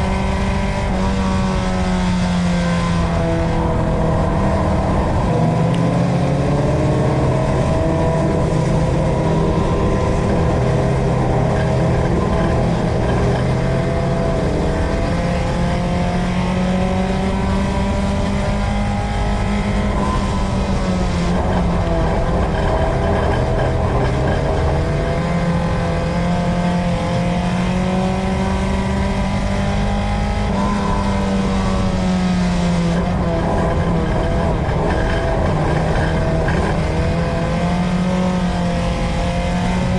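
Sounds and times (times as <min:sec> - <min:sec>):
race car engine revving: 0:00.0 - 0:39.9
road and chassis rumble: 0:00.0 - 0:39.9.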